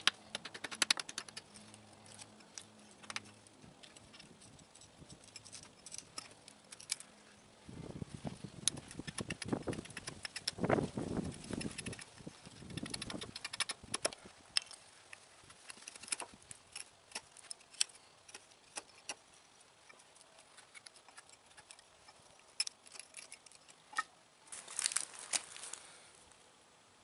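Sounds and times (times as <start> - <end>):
hatchet shaving wood: 0.0 - 7.0, 8.6 - 24.1.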